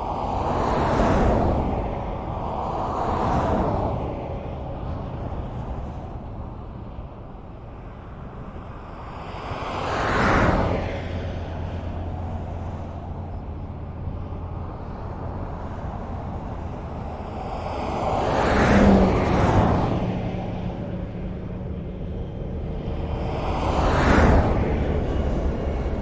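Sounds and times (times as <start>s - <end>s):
highway traffic rumble: 0.0s - 26.0s.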